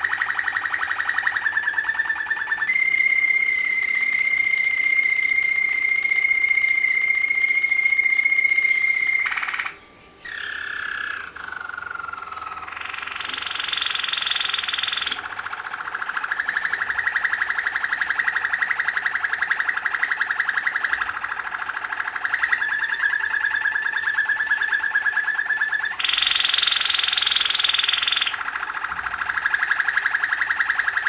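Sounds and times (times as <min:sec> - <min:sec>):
canary singing trills and whistles: 0:00.0 - 0:31.0.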